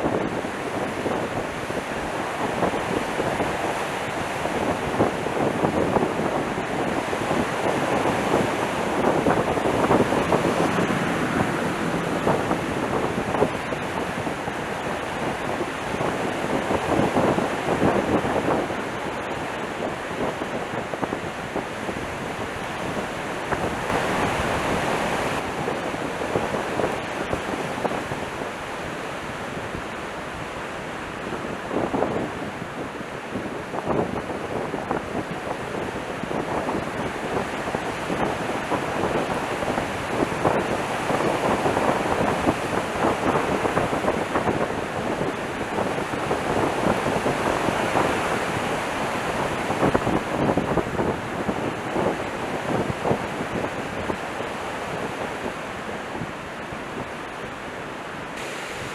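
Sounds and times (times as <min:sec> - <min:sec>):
gusting wind on microphone: 0:00.0 - 0:58.9.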